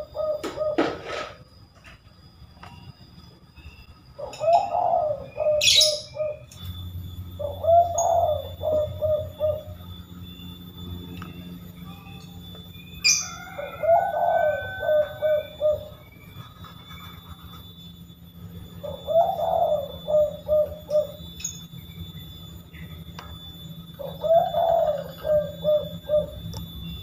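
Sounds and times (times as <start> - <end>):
dove cooing: 0.0 - 1.6, 3.6 - 27.0
faint small bird chirps: 0.0 - 27.0.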